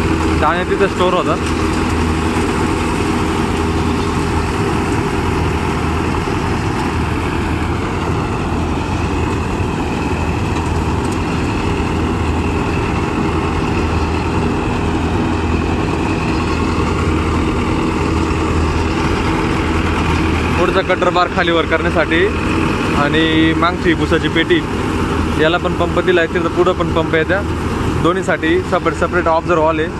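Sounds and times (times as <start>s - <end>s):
threshing machinery whirring: 0.0s - 29.9s
tractor engine running under load: 0.0s - 29.9s.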